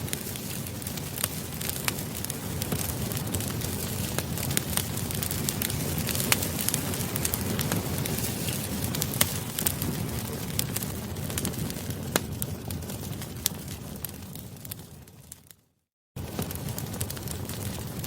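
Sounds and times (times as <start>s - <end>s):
campfire crackling: 0.0s - 15.6s, 16.2s - 18.0s.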